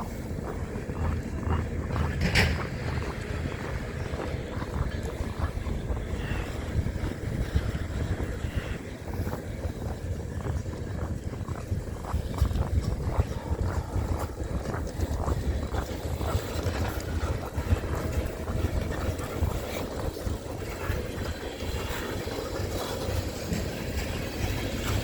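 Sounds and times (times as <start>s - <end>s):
small ticks: 0.0s - 22.1s
wind buffeting microphone: 0.0s - 25.0s.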